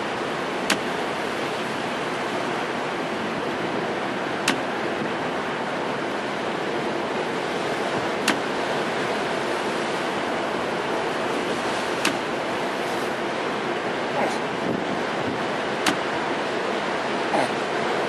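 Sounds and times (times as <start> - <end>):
storm waves breaking on seawall: 0.0 - 18.0.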